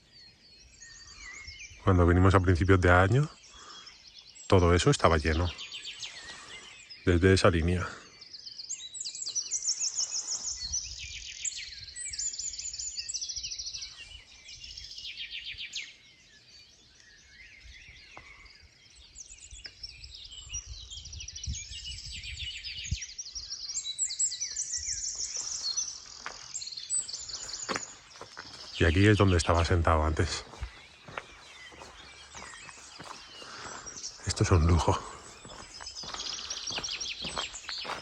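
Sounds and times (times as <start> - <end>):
songbirds trilling and chirping: 0.0 - 38.0.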